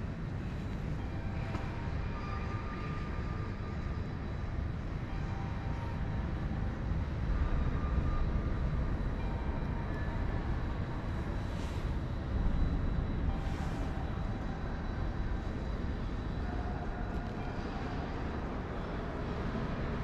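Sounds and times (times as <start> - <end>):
low rumble in industrial hall: 0.0 - 20.0.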